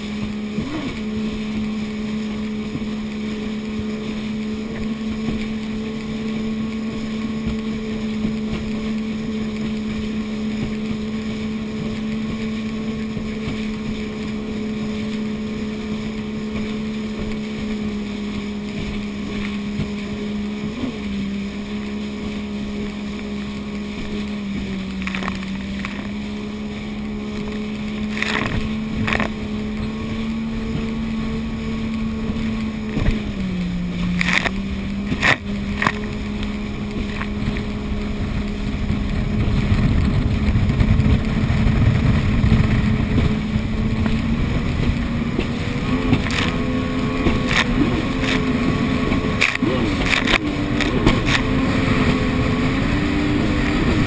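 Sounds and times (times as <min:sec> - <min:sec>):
jet ski engine: 0:00.0 - 0:54.0
water splashing: 0:00.0 - 0:54.0
wind buffeting microphone: 0:00.0 - 0:54.0.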